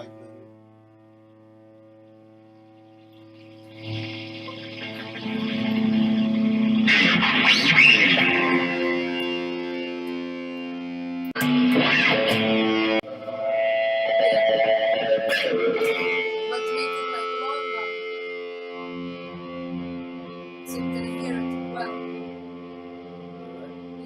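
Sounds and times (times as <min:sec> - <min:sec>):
distorted electric guitar notes: 0:00.0 - 0:24.0.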